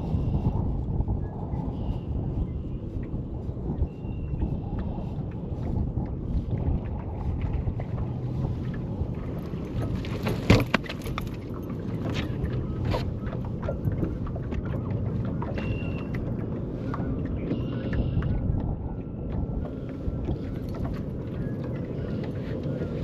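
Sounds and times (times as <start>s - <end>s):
wind and water rumble: 0.0s - 23.0s.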